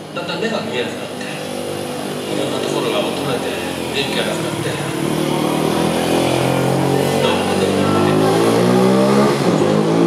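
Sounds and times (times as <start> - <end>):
vehicle engine accelerating: 0.0 - 10.0.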